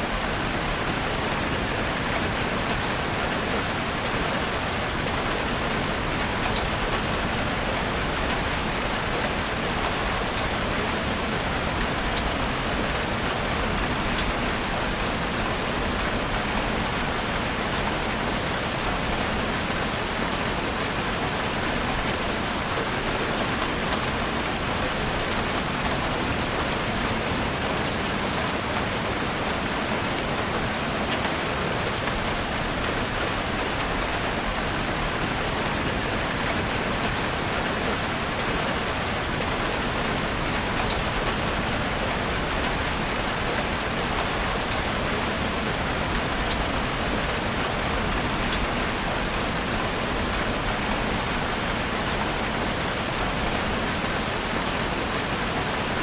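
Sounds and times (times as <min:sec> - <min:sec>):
heavy rain drumming on a roof: 0:00.0 - 0:56.0.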